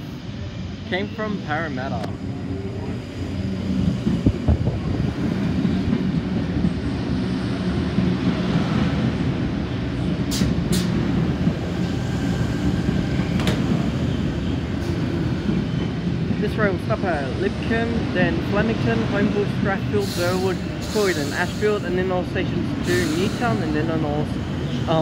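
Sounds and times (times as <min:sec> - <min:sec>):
train passing rumble: 0:00.0 - 0:25.0.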